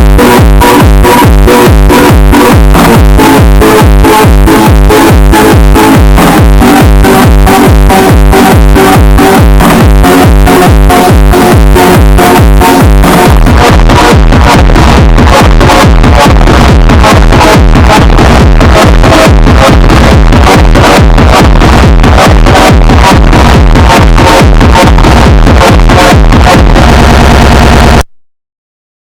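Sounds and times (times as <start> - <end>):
loud electronic dance music: 0.0 - 28.1.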